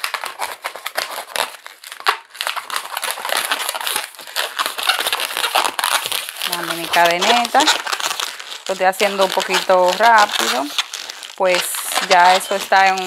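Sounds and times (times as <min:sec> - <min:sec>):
balloon rubbing and crackling: 0:00.0 - 0:13.0.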